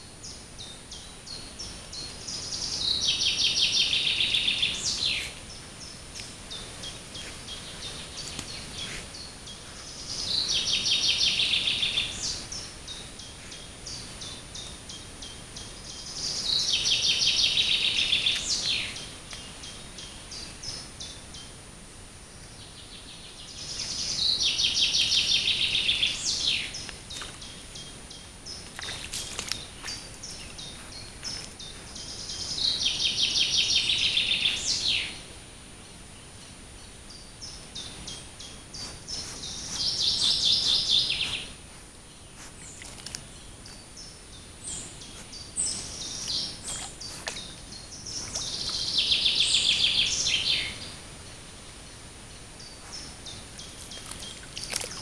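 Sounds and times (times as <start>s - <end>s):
songbird singing: 0.0s - 55.0s
steady outdoor hiss: 0.0s - 55.0s.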